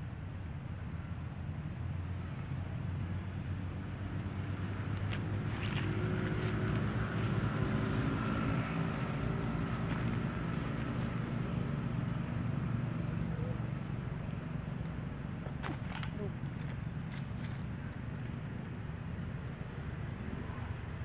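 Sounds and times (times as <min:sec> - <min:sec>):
low engine-like drone: 0:00.8 - 0:21.0.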